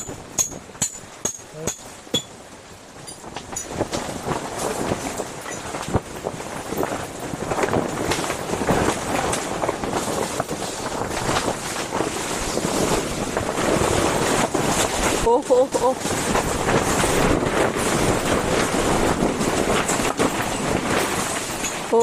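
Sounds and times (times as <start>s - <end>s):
tent fabric flapping and rattling: 0.0s - 22.0s
wind rumble on microphone: 0.0s - 22.0s
strong wind gusting: 2.4s - 22.0s.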